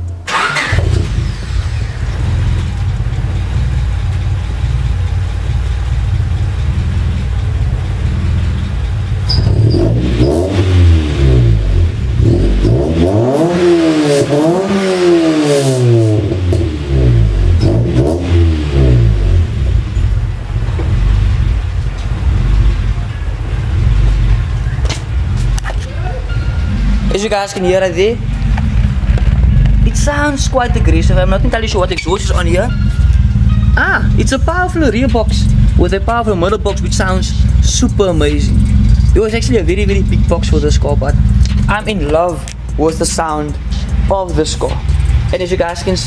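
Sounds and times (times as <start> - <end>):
aggressive exhaust: 0.0 - 46.0
car engine idling and revving: 0.0 - 46.0.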